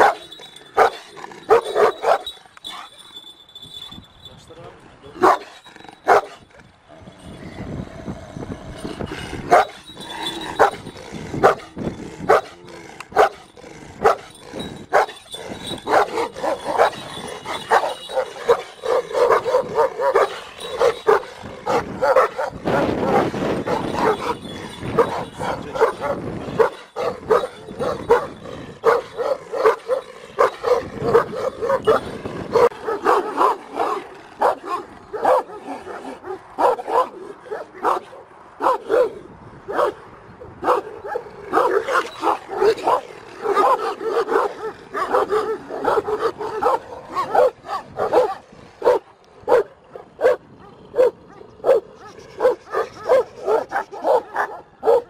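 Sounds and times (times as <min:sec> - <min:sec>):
dogs barking deeply: 0:00.0 - 0:03.0, 0:05.2 - 0:06.5, 0:08.1 - 0:40.0, 0:40.6 - 0:55.0.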